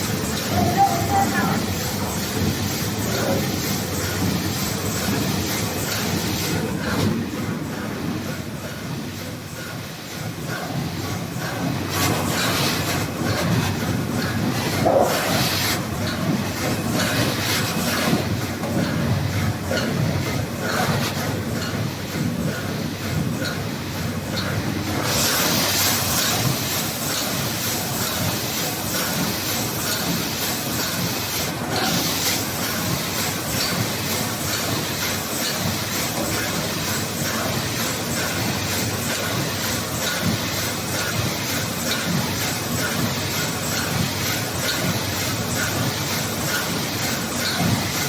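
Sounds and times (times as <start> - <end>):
filling machine clattering: 0.0 - 8.3, 11.1 - 48.0.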